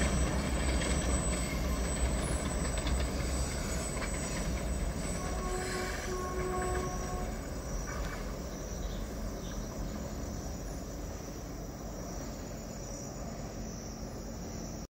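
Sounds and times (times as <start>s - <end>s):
insects chirring: 0.0s - 14.9s
train rumbling: 0.0s - 14.9s
train wheel squeal: 0.0s - 14.9s.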